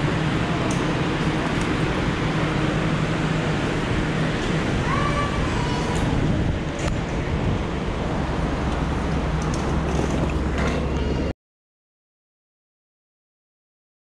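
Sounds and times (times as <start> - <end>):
steady low hum: 0.0 - 11.3
train rumble: 0.0 - 11.3.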